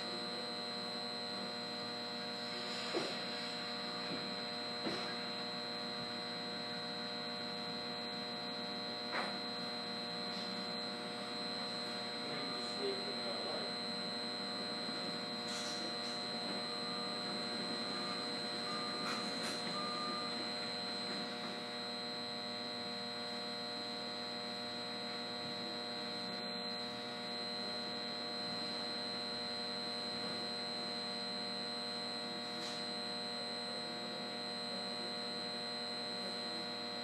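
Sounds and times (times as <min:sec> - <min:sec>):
electrical hum: 0:00.0 - 0:37.0
thin high whine: 0:00.0 - 0:37.0.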